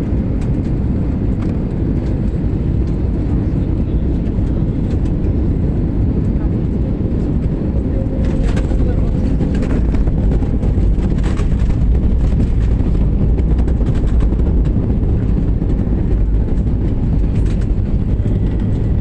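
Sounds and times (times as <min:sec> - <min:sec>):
aircraft cabin engine drone: 0:00.0 - 0:19.0.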